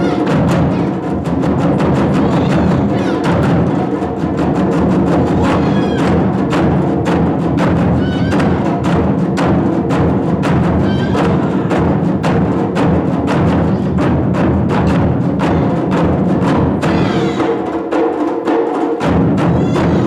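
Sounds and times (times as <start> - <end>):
drums beating fast: 0.0 - 20.0.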